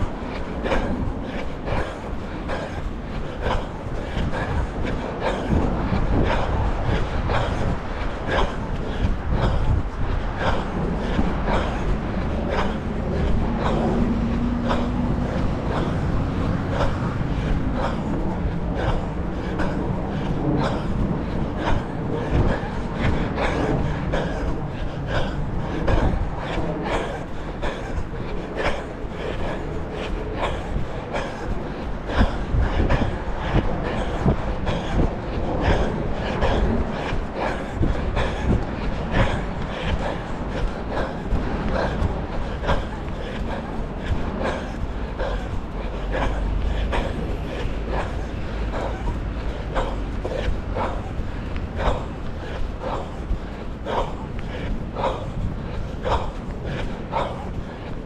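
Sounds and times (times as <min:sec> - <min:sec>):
runner breathing heavily: 0:00.0 - 0:58.0
wind buffeting microphone: 0:00.0 - 0:58.0.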